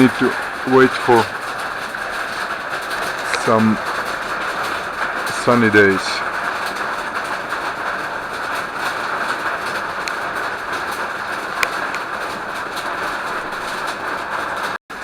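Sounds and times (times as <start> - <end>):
heavy rain and running water: 0.0 - 15.0.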